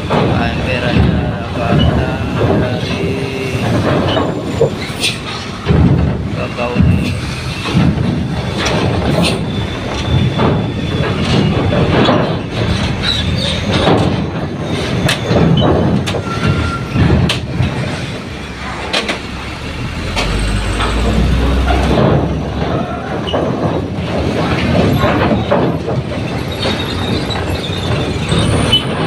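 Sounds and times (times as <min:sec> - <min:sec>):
steel plates clanking: 0:00.0 - 0:29.0
truck engine rumble: 0:00.0 - 0:29.0.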